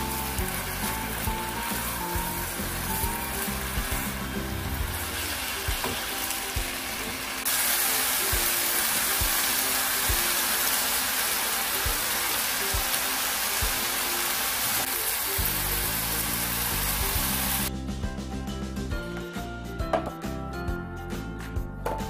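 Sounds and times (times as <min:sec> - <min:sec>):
stir-fry sizzling in a pan: 0:00.0 - 0:17.7
background music: 0:00.0 - 0:22.0.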